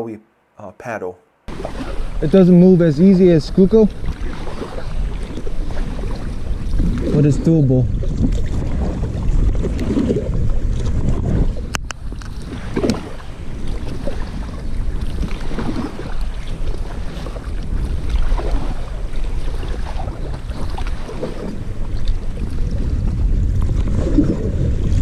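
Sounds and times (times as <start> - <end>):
paddle splashing: 1.5 - 25.0
wind buffeting microphone: 1.5 - 25.0.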